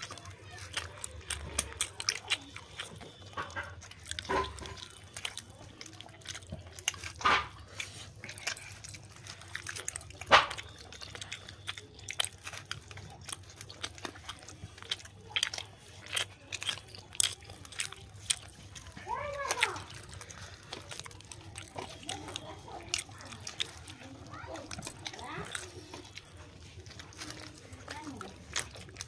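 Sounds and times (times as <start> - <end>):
chewing and lip smacks: 0.0 - 29.0.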